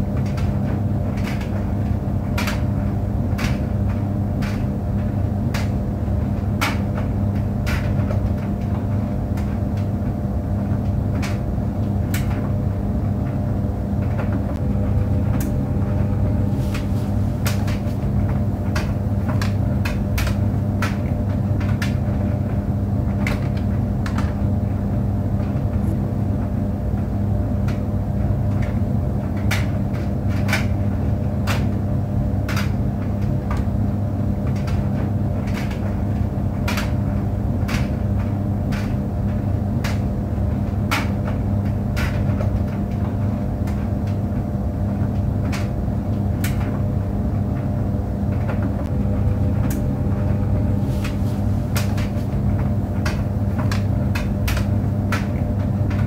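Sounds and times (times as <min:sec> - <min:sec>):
tumble dryer hum: 0:00.0 - 0:56.0.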